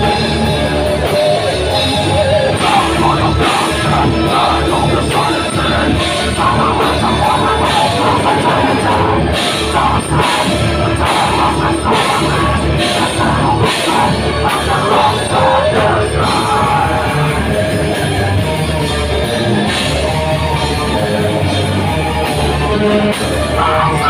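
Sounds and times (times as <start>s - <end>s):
heavy metal band playing: 0.0s - 24.0s
vocalist singing: 0.0s - 24.0s.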